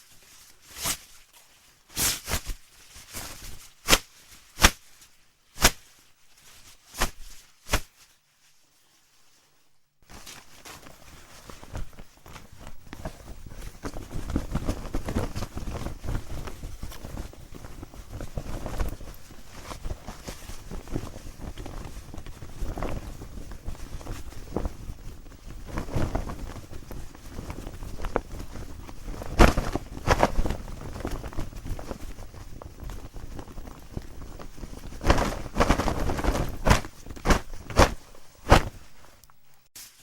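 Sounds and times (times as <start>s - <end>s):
fabric flapping: 0.0s - 39.2s
cloth rustling: 0.0s - 40.0s.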